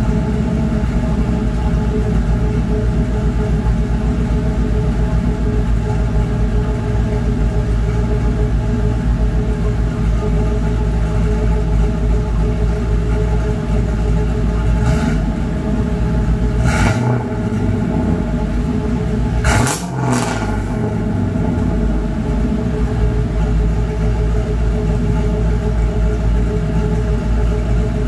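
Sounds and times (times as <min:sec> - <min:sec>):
deep exhaust rumble at idle: 0:00.0 - 0:28.0
engine throttle blips: 0:00.0 - 0:28.0.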